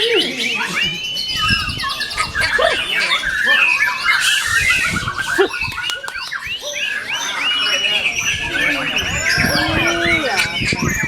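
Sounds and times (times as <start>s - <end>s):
bird singing varied whistled song: 0.0s - 11.0s.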